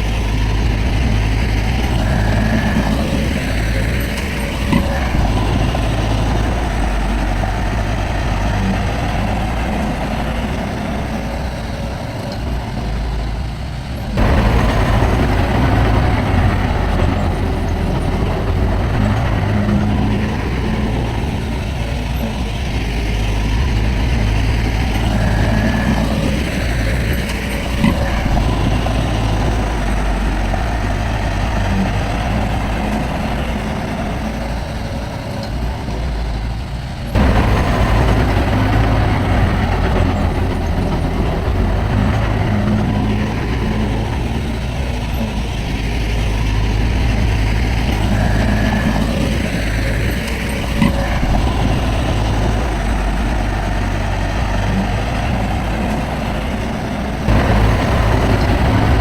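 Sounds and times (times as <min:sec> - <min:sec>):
heavy machinery diesel engines running: 0:00.0 - 0:59.0.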